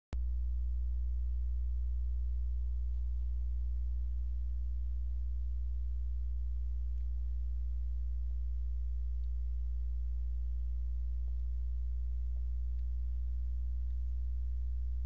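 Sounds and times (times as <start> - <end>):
low electrical hum: 0.2 - 15.0.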